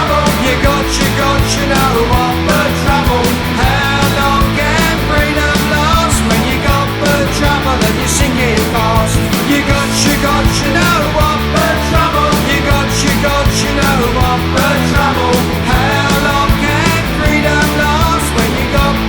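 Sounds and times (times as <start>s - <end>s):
punk rock music: 0.0s - 19.0s.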